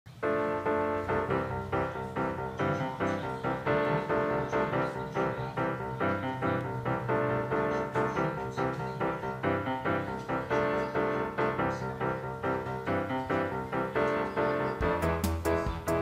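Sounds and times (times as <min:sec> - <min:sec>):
keyboard tune with steady beat: 0:00.1 - 0:16.0.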